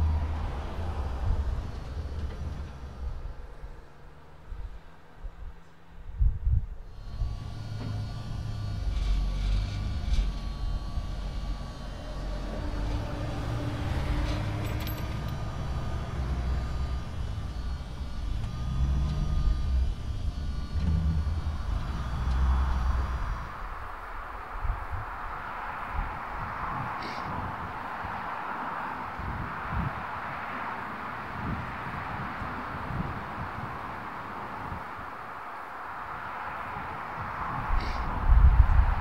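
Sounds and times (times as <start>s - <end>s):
excavator diesel engines: 0.0s - 39.0s.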